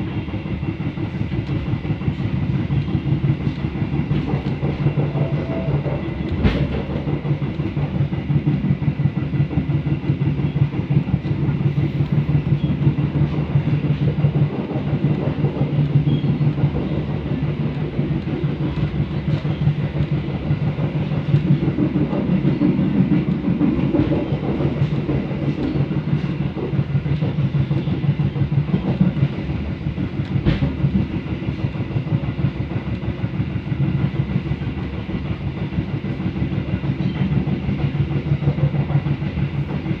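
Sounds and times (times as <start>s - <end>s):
train rumbling: 0.0s - 40.0s
wheels rattling on rail: 0.0s - 40.0s.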